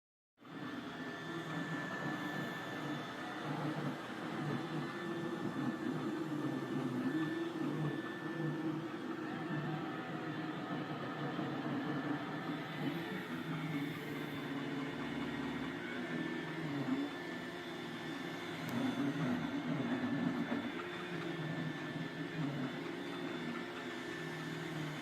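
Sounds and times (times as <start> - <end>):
robot vacuum motor humming: 0.4 - 25.0.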